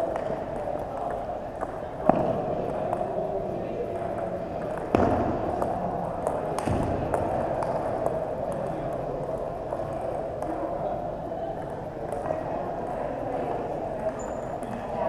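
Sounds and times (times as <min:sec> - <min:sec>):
faint chatter: 0:00.0 - 0:15.0.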